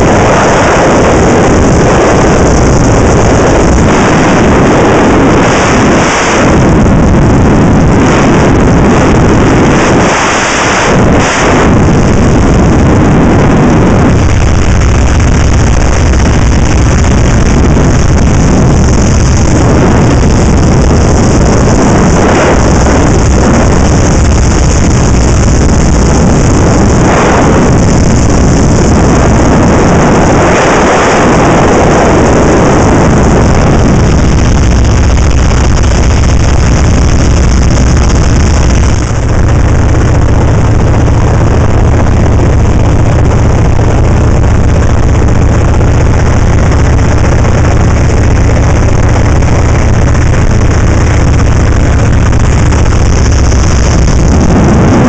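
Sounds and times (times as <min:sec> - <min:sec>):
radial engine and propeller drone: 0:00.0 - 0:55.0
wind rushing: 0:00.0 - 0:55.0.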